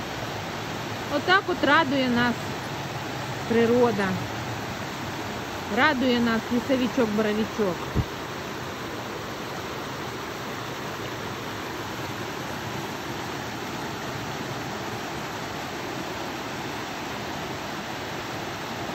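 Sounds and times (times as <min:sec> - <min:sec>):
rocky stream running: 0:00.0 - 0:18.9
waterfall rushing: 0:00.0 - 0:18.9.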